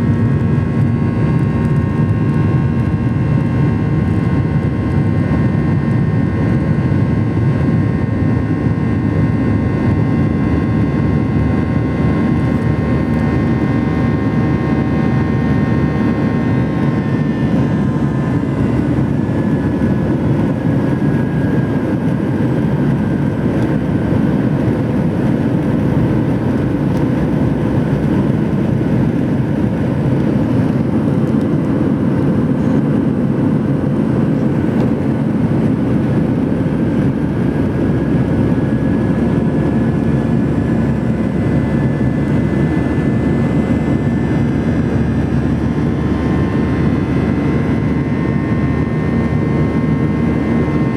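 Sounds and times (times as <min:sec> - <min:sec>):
airplane cabin roar: 0:00.0 - 0:50.9
high jet engine fan whine: 0:00.0 - 0:50.9.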